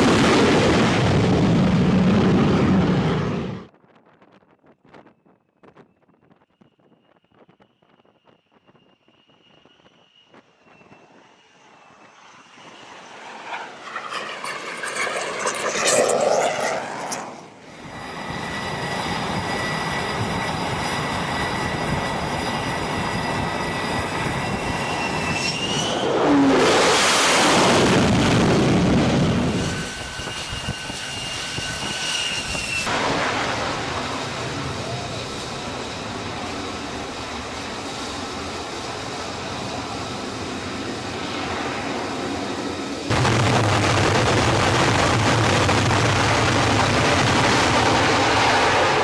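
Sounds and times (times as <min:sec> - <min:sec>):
jet passing: 0:00.0 - 0:03.7, 0:08.6 - 0:49.0
jet engine running with whine: 0:00.0 - 0:49.0.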